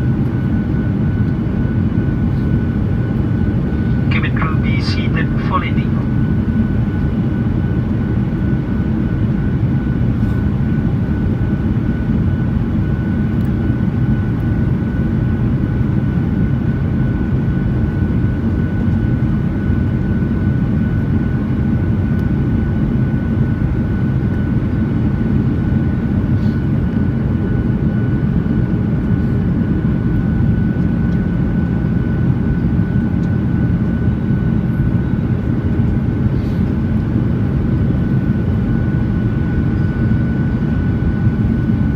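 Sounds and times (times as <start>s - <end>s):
engine and air rumble: 0.0s - 41.9s.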